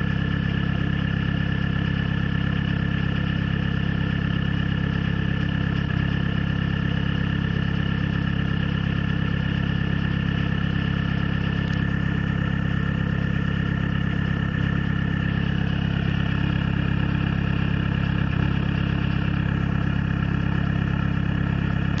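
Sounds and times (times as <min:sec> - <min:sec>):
diesel engine idling with misfire: 0:00.0 - 0:22.0.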